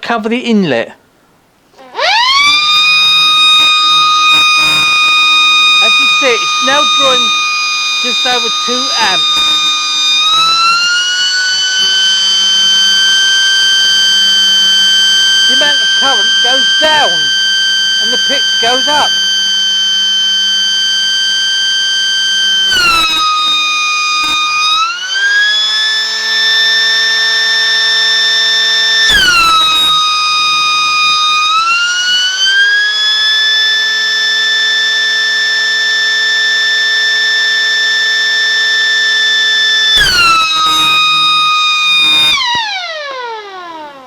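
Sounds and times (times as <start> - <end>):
electric mechanical siren wailing: 1.8 - 44.0.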